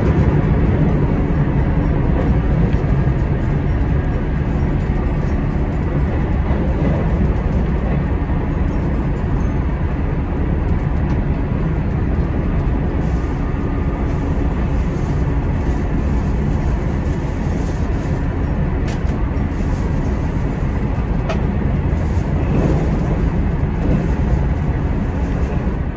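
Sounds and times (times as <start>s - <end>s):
diesel engine drone: 0.0s - 25.9s
wheels rumbling on rail: 0.0s - 25.9s.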